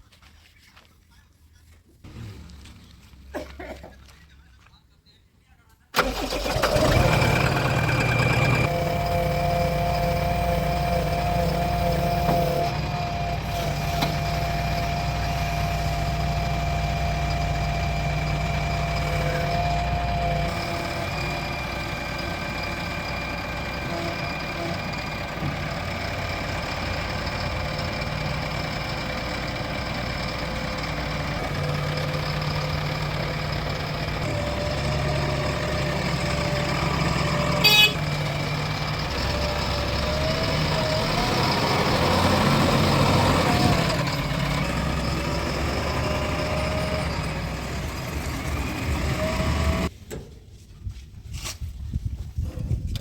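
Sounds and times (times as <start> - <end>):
diesel engines running: 2.0 - 4.8, 6.0 - 50.0.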